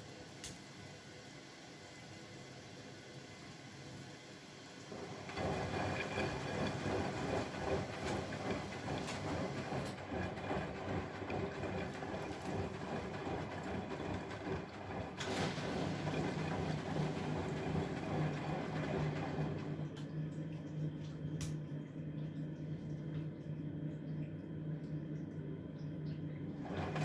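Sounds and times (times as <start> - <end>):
washing machine running: 0.0 - 27.0.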